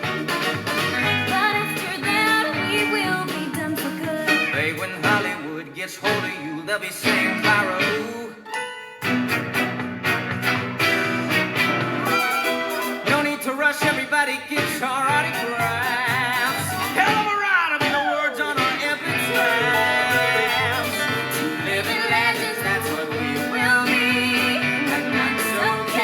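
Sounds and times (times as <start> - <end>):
musical theatre song with band: 0.0 - 8.3, 9.0 - 26.0.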